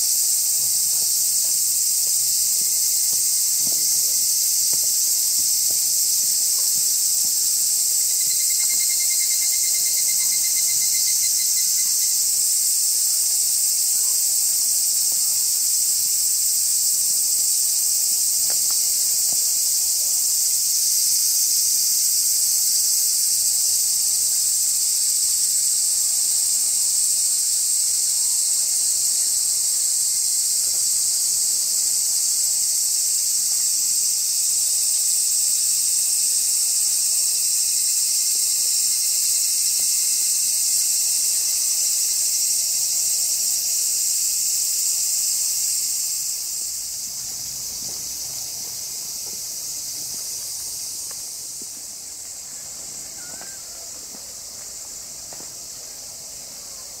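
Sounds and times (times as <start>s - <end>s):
insects chorus hissing: 0.0s - 57.0s.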